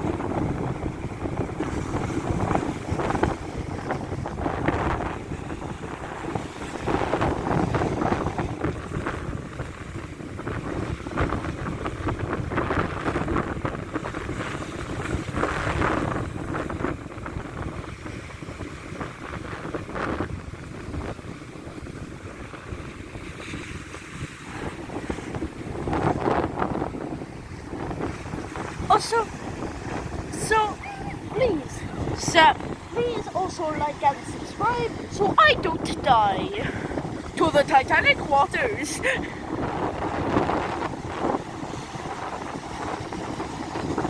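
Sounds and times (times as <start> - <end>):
sea waves breaking: 0.0 - 44.0
wind buffeting microphone: 0.0 - 44.0.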